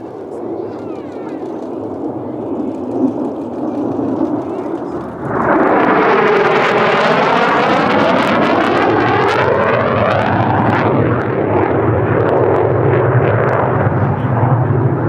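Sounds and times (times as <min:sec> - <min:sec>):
jet flying past: 0:00.0 - 0:15.0.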